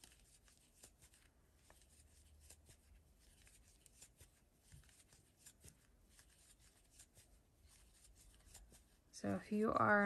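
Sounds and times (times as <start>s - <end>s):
yarn rustling: 0.0s - 9.2s.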